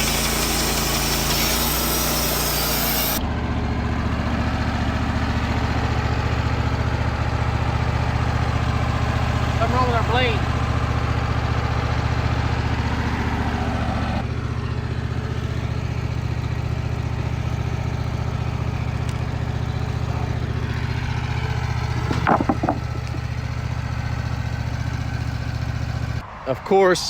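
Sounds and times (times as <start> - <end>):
sawmill engine running: 0.0 - 26.6.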